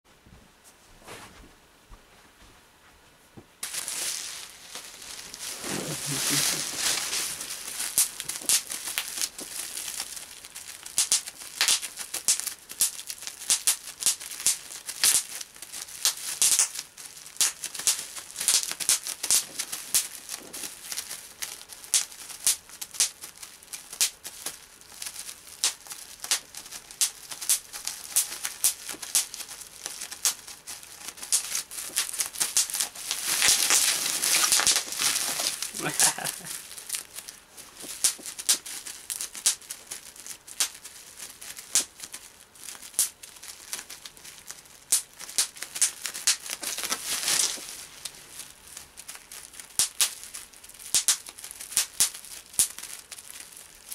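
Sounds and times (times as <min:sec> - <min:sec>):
bubble wrap crinkling: 0:03.6 - 0:53.9
bubble wrap popping: 0:03.6 - 0:53.9.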